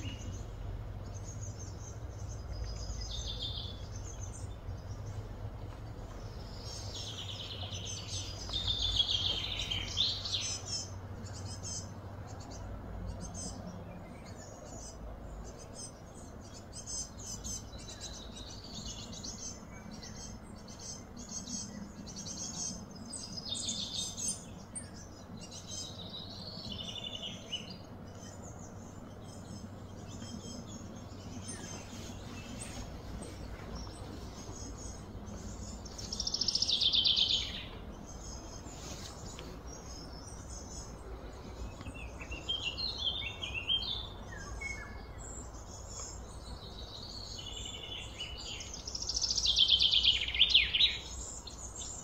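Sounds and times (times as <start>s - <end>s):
birds chirping and calling: 0.0s - 52.0s
low background hum: 0.0s - 52.0s.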